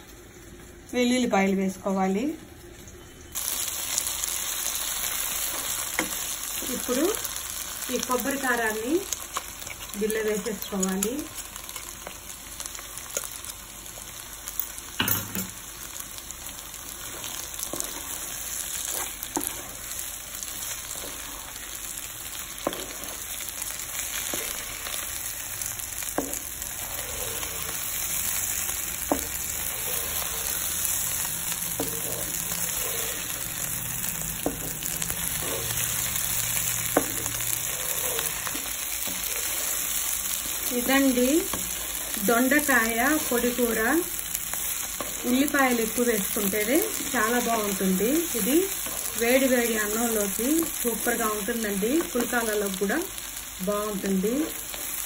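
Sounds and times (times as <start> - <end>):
vegetables sizzling in pan: 0.0 - 55.0.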